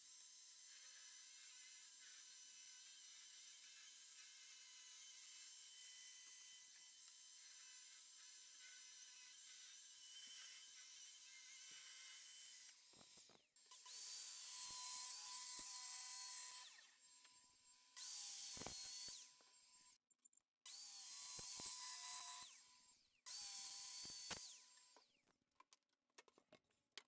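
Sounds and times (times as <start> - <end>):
electric saw cutting wood: 0.0 - 20.0, 20.7 - 25.2.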